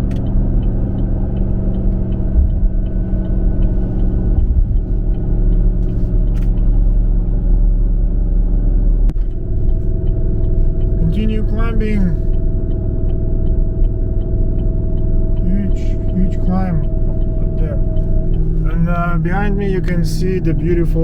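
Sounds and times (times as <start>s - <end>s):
engine hum: 0.0s - 21.0s
road noise in moving car: 0.0s - 21.0s.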